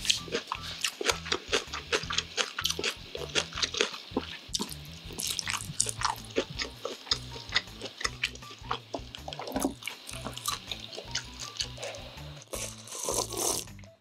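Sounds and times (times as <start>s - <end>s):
wet chewing mouth clicks: 0.0s - 13.7s.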